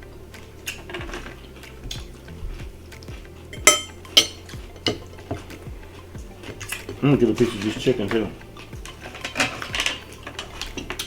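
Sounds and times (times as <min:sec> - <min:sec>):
cutlery and dishes clattering: 0:00.0 - 0:11.0.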